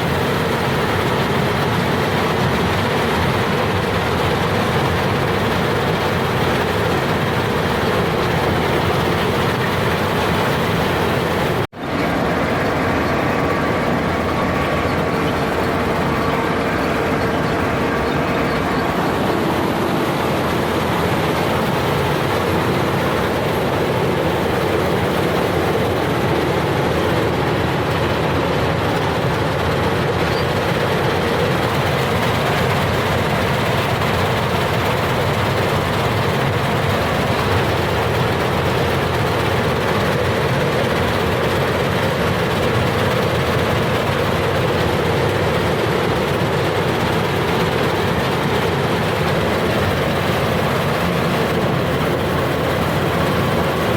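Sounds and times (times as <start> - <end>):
harvester machine running: 0.0 - 53.9.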